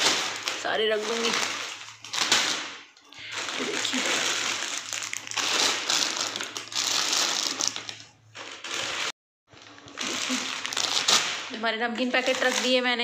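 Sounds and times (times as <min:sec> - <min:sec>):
plastic snack packets crinkling: 0:00.0 - 0:13.0.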